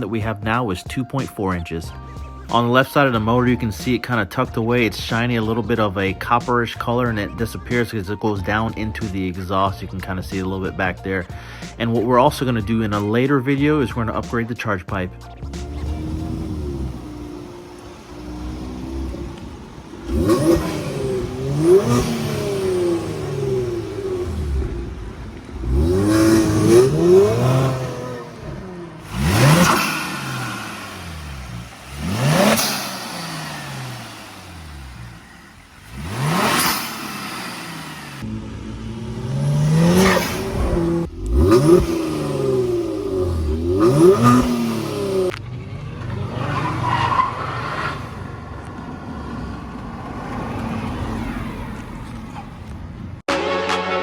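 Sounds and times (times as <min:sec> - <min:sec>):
car engine revving: 0:01.5 - 0:09.2, 0:13.8 - 0:53.3.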